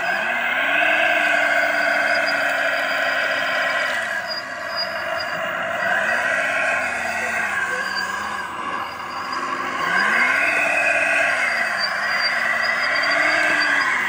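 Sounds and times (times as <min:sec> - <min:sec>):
model vehicle motor whine: 0:00.0 - 0:14.0.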